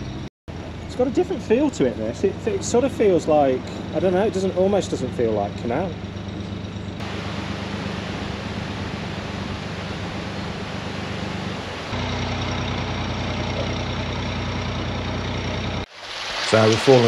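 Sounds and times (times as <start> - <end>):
boat engine running at low revs: 0.0 - 15.9.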